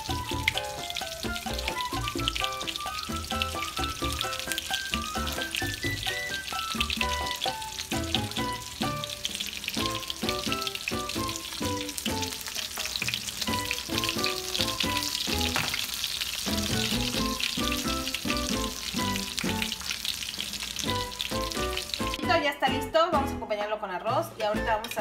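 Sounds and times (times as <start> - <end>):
chicken frying in hot oil: 0.0 - 22.3
background music: 0.0 - 25.0.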